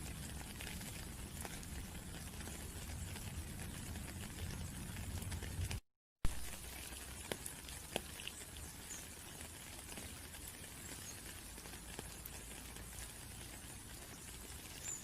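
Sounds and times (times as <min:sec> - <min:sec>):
light rain: 0:00.0 - 0:15.0
raindrops ticking: 0:00.0 - 0:15.0.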